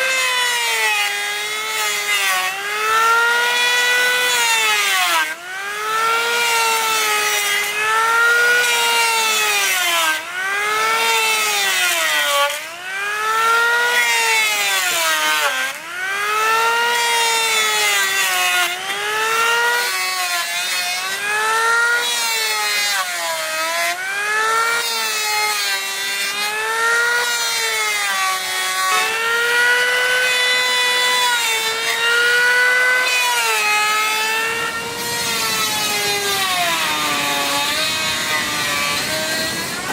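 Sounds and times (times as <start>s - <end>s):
power tool whining into wood: 0.0s - 39.9s.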